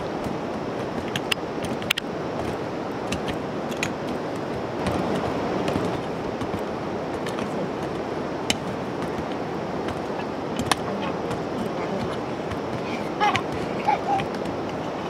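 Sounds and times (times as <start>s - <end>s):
hoes chopping dry soil: 0.0s - 15.0s
steady rushing noise: 0.0s - 15.0s.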